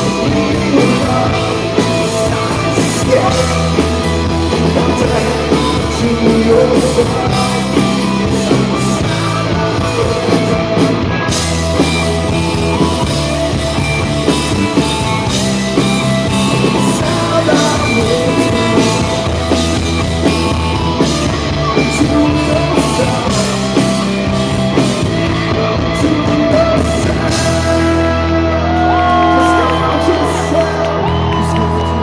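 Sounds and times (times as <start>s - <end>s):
live rock band with singing: 0.0s - 32.0s.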